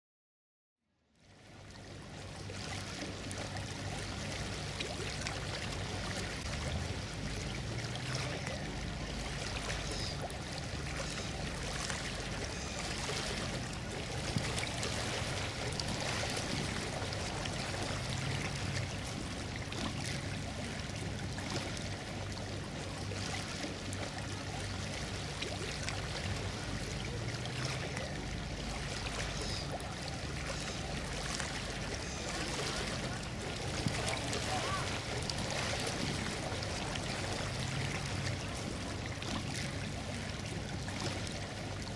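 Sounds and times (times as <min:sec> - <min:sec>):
water lapping and trickling: 0:00.9 - 0:41.9.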